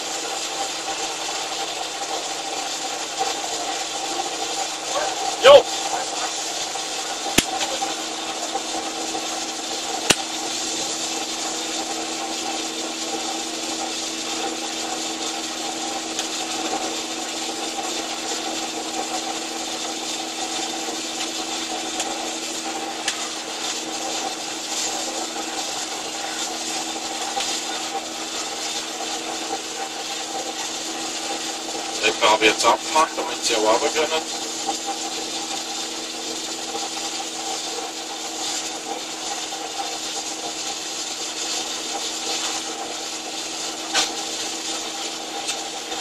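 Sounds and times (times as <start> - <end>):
machinery hum with hiss: 0.0 - 46.0.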